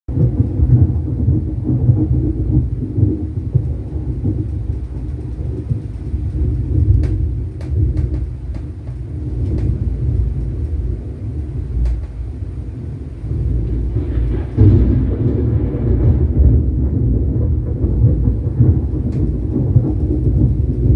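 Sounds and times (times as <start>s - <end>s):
deep thunder-like rumbling: 0.1s - 20.9s.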